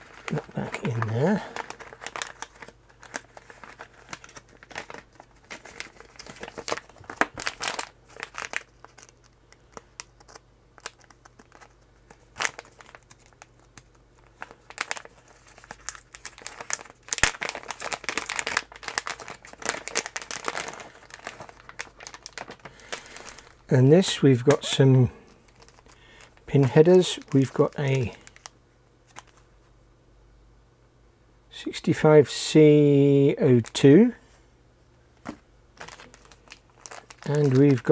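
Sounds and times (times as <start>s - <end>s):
plastic bags crinkling: 0.0s - 29.4s, 35.2s - 37.9s.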